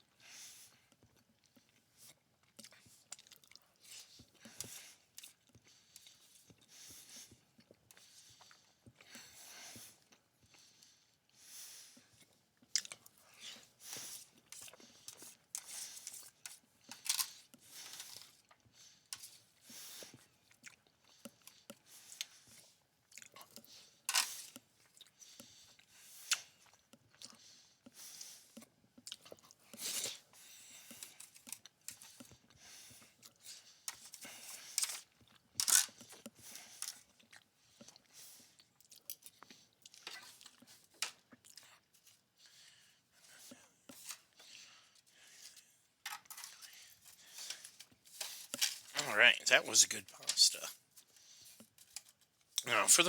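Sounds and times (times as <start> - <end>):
person chewing food: 0.8 - 10.8, 12.0 - 48.9.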